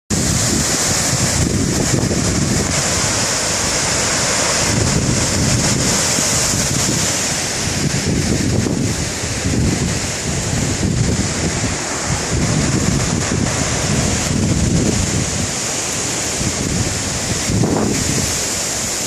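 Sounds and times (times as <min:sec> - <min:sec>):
strong wind buffeting microphone: 0:00.1 - 0:19.0.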